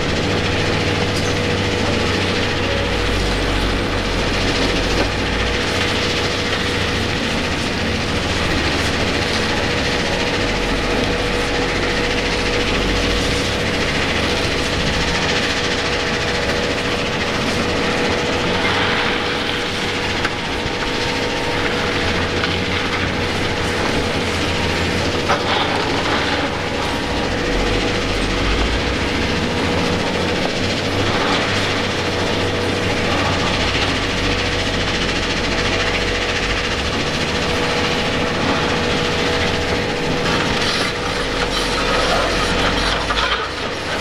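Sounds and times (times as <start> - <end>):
rock crushers running: 0.0 - 44.0.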